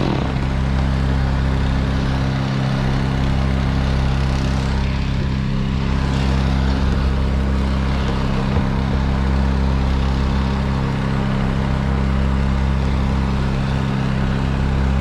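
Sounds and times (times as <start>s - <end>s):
heavy engine running steadily: 0.0s - 15.0s.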